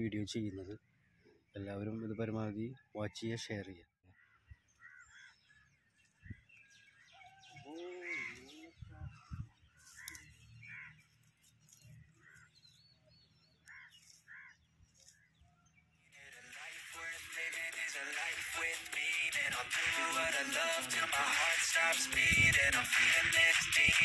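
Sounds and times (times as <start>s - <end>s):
small birds chirping: 0.0s - 24.0s
drawn-out bird call: 4.1s - 24.0s.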